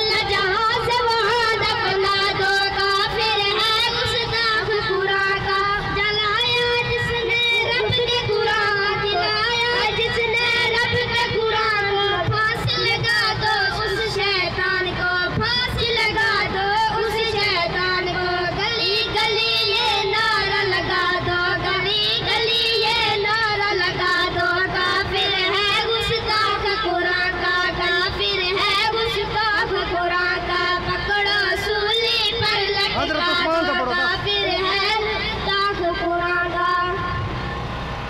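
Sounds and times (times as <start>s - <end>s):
boys singing into microphones: 0.0s - 37.3s.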